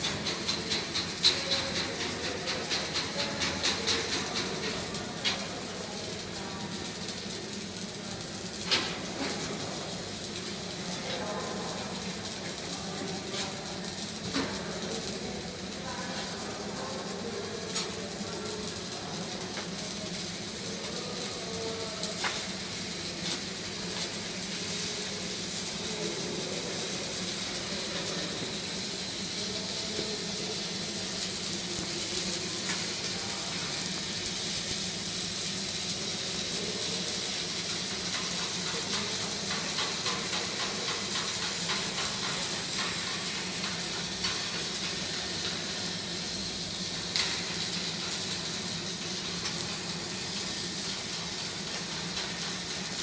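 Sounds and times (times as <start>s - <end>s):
welding arc crackling hiss: 0.0s - 53.0s.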